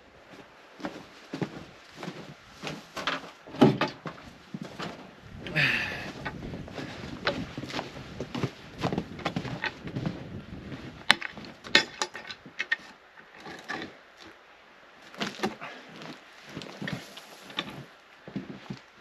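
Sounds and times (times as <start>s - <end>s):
log knocking and scraping: 0.8s - 14.4s, 15.1s - 19.0s.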